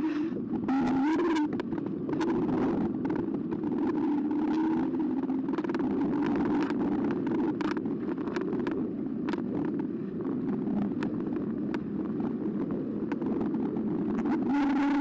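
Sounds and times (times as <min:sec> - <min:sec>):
bike tyre rolling noise: 0:00.0 - 0:15.0
steady whine: 0:00.0 - 0:15.0.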